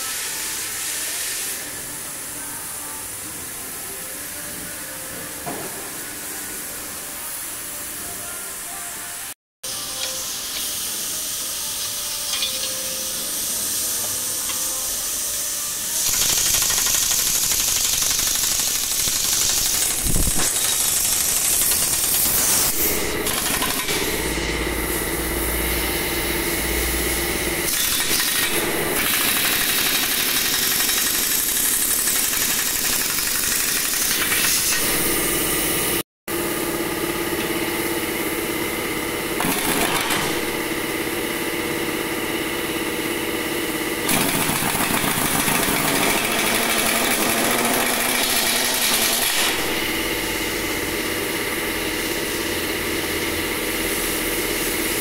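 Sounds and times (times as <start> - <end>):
pneumatic impact wrench hammering: 9.8 - 15.2, 15.8 - 55.0.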